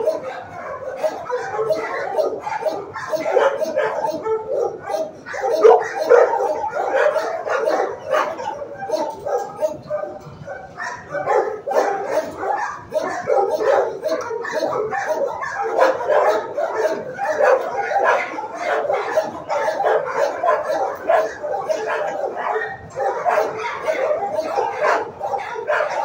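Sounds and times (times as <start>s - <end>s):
many dogs barking and yelping: 0.0s - 26.0s.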